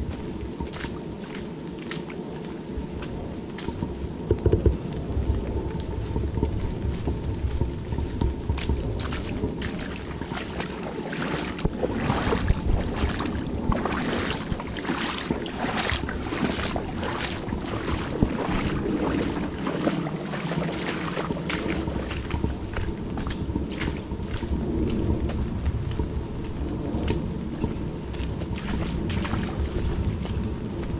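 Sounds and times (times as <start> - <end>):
footsteps on muddy track: 0.0 - 30.9
wind on microphone: 0.0 - 30.9.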